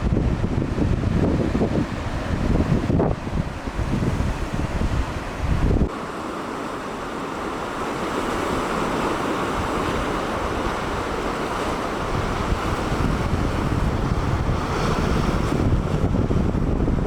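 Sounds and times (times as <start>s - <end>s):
wind buffeting microphone: 0.0s - 6.0s, 7.8s - 17.0s
surf breaking on a beach: 0.0s - 17.0s.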